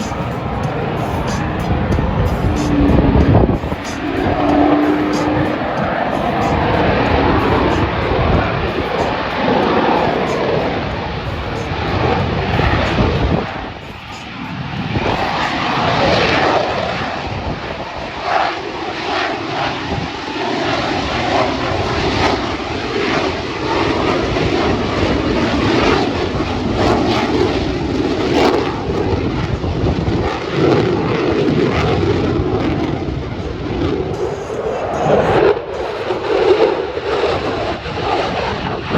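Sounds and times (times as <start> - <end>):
airplane engine roar: 0.0 - 38.9.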